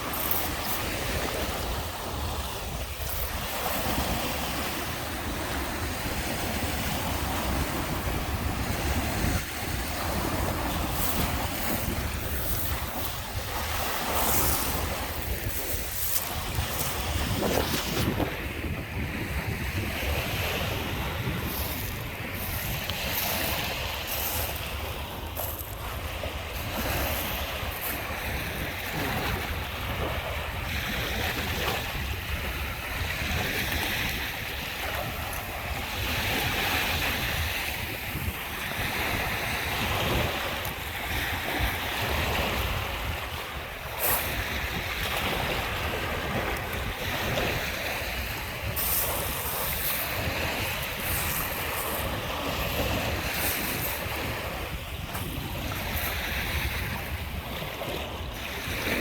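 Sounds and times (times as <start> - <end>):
waves washing onto shore: 0.0 - 59.0
wind rumbling on microphone: 0.0 - 59.0.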